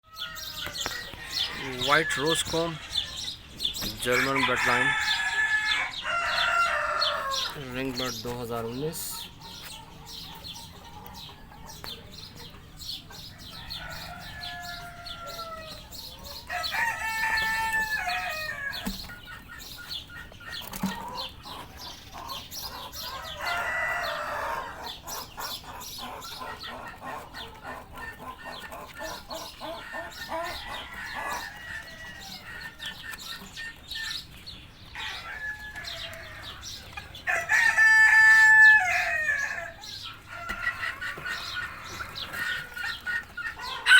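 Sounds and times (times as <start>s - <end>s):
chickens clucking and crowing: 0.0s - 43.9s.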